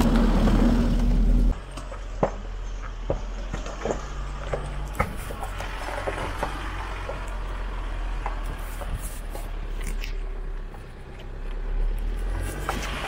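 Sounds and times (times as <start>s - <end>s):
pickup engine and road rumble: 0.0s - 13.0s.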